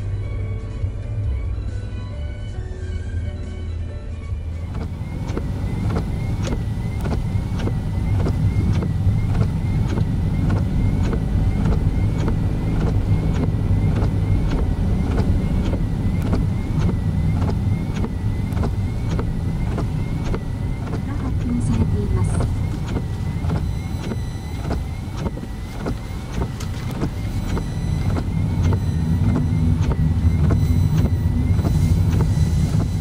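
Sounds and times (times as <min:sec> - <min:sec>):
low rumble of engine and tyres: 0:00.0 - 0:33.0
even ticking: 0:04.6 - 0:33.0.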